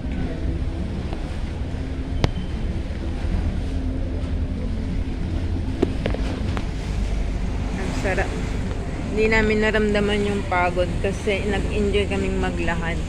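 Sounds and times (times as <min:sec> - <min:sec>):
boat engine rumbling: 0:00.0 - 0:13.0
wind on microphone: 0:00.0 - 0:13.0.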